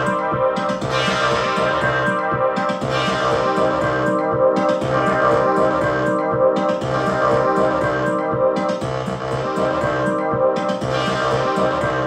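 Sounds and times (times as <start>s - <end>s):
electronic drum pattern: 0.0s - 12.0s
synth bass line: 0.0s - 12.0s
synth trumpet: 0.0s - 12.0s.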